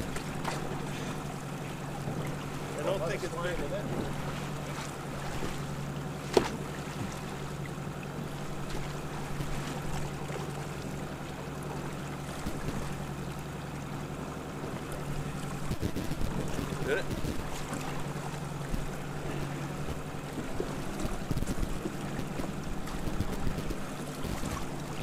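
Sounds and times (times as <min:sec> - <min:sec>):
boat motor humming: 0:00.0 - 0:25.0
water noise: 0:00.0 - 0:25.0
wind: 0:00.0 - 0:25.0.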